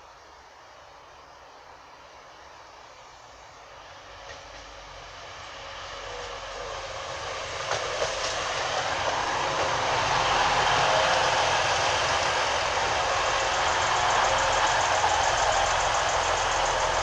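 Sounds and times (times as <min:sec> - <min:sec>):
diesel train arriving: 0:00.0 - 0:17.0.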